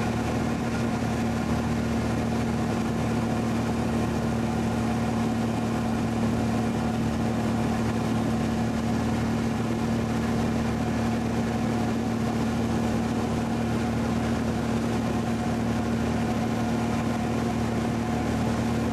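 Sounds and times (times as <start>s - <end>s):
light airplane engine and propeller: 0.0s - 18.9s.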